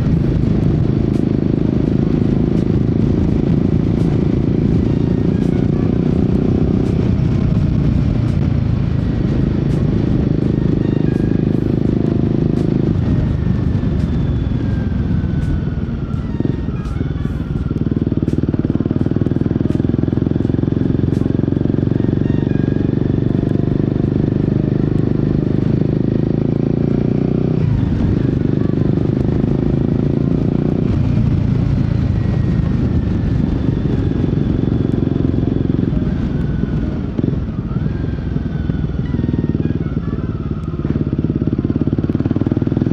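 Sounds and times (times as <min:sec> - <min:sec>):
motorcycle engine and exhaust: 0:00.0 - 0:42.9.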